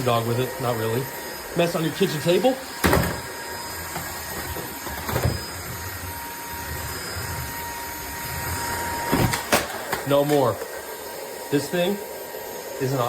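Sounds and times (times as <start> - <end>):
stick vacuum motor whirring: 0.0 - 13.0.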